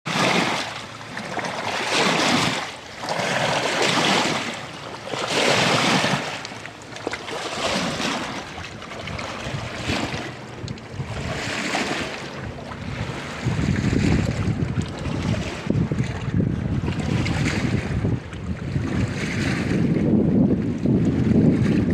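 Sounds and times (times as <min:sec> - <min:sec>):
water waves washing in: 0:00.1 - 0:21.9.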